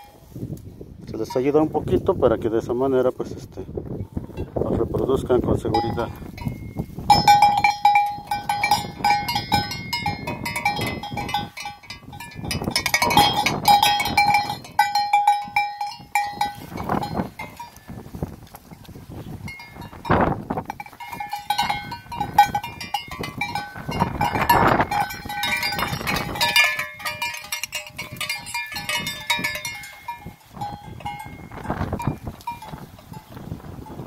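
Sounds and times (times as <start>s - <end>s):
sheep bell clanking: 1.2s - 1.8s, 5.5s - 34.0s.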